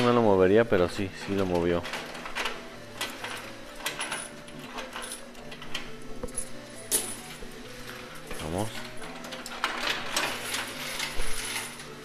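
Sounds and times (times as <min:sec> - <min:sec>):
coins clinking and clattering: 0:01.0 - 0:12.0.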